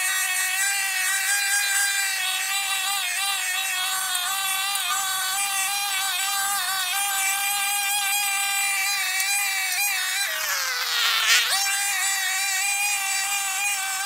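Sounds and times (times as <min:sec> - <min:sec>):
brush cutter engine whining: 0:00.0 - 0:14.0.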